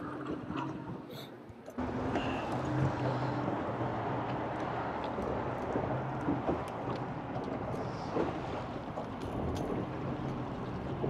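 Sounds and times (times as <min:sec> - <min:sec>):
water lapping against boat hull: 0:00.0 - 0:11.0
wind: 0:00.0 - 0:11.0.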